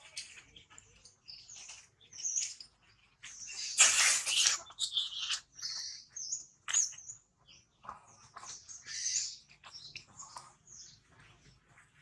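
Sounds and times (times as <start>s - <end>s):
animal chirps and squeaks: 0.0s - 10.9s.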